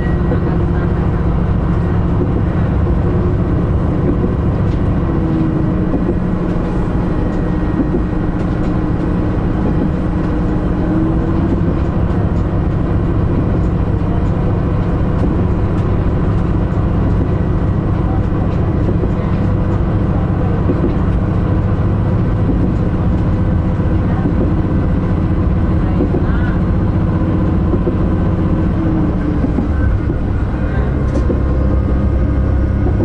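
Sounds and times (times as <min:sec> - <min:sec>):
diesel engine drone: 0:00.0 - 0:33.0
wheels rumbling on rails: 0:00.0 - 0:33.0.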